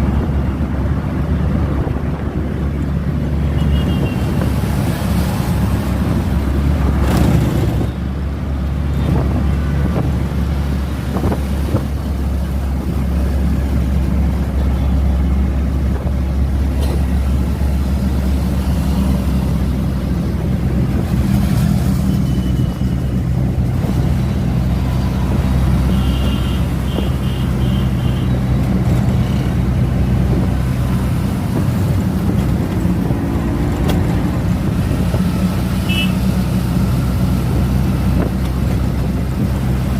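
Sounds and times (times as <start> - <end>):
road vehicle engine rumble: 0.0 - 39.9.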